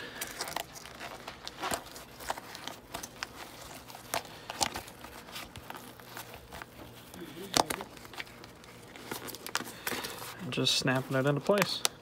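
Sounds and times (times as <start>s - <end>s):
rubber rubbing and rustling: 0.4s - 11.6s.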